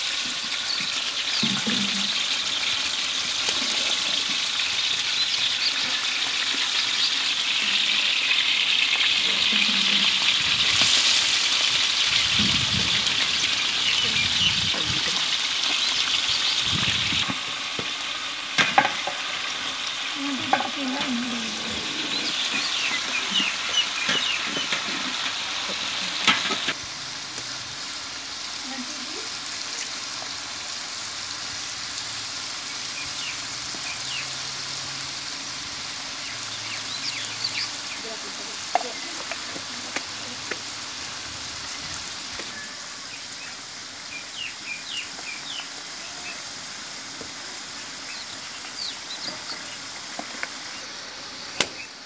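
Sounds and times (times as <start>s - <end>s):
chicken sizzling in hot oil: 0.0s - 52.0s.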